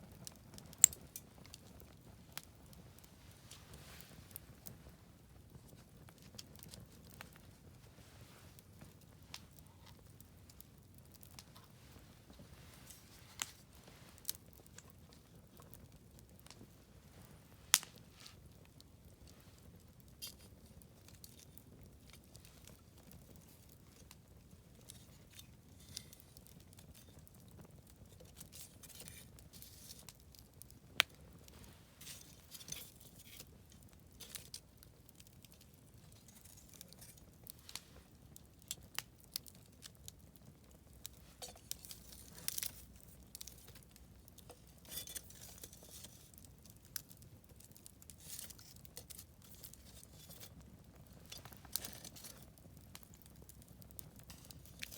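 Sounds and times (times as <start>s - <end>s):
campfire crackling and popping: 0.0s - 54.9s
low rumble of burning fire: 0.0s - 54.9s.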